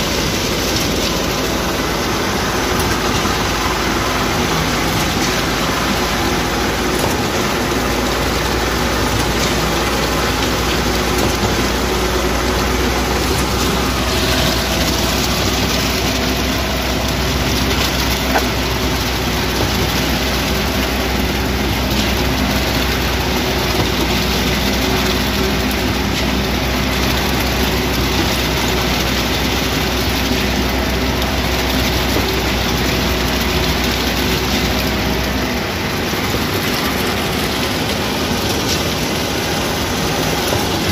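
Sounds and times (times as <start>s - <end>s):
heavy truck engines running: 0.0s - 40.9s
wet concrete pouring down chute: 0.0s - 40.9s.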